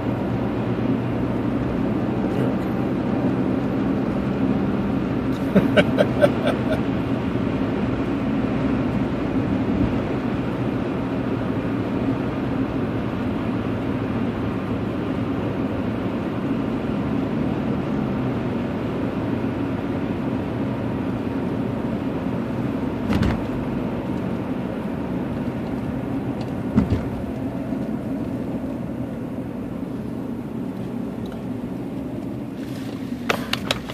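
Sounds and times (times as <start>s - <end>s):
car road and engine noise: 0.0s - 33.9s.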